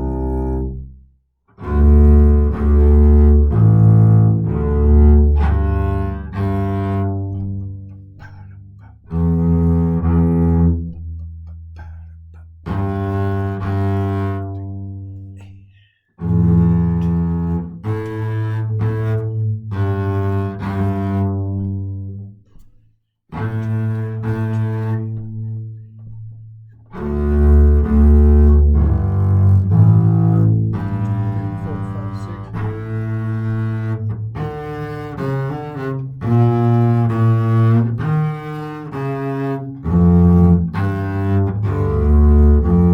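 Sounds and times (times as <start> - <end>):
bowed double bass: 0.0 - 42.9.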